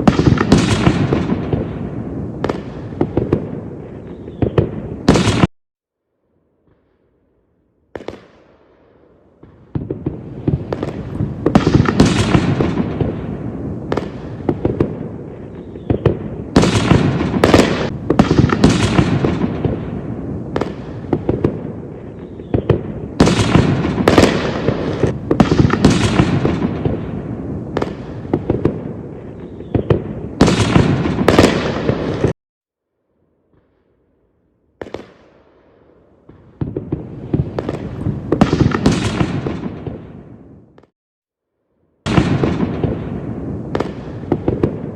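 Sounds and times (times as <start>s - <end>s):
fireworks bangs and crackling: 0.0s - 5.5s, 6.5s - 32.4s, 33.4s - 41.0s, 42.0s - 44.9s.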